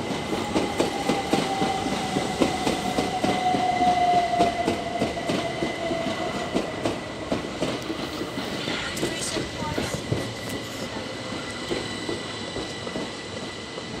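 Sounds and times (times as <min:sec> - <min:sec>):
train traction whine: 0:00.0 - 0:14.0
train wheels clicking over rail joints: 0:00.0 - 0:14.0.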